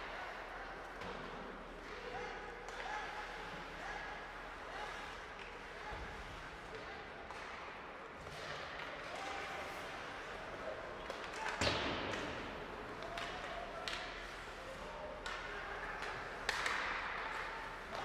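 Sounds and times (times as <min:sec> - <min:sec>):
hockey sticks and puck clacking: 0:00.3 - 0:06.0, 0:06.6 - 0:18.0.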